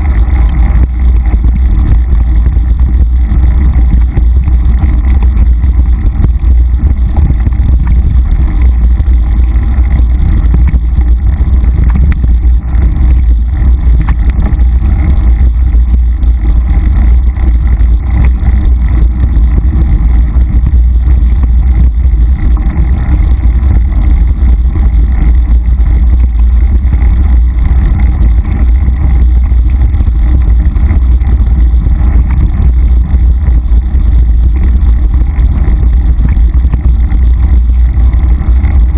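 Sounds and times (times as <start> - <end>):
bike trail vibration: 0.0 - 38.9
wind buffeting microphone: 0.0 - 38.9.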